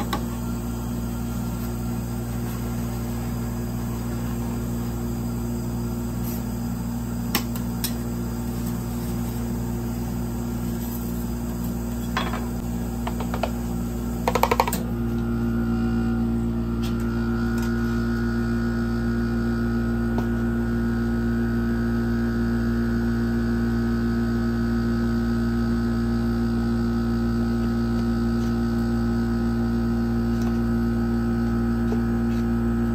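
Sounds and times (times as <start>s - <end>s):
refrigerated cold plate humming: 0.0s - 32.9s.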